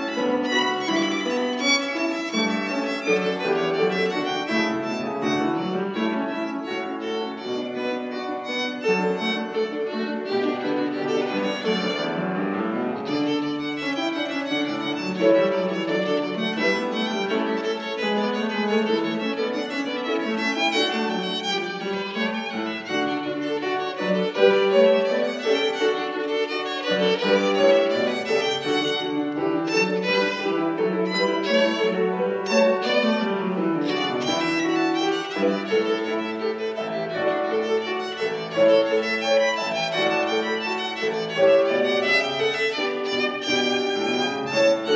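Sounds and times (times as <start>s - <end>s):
solo violin playing: 0.0s - 44.9s.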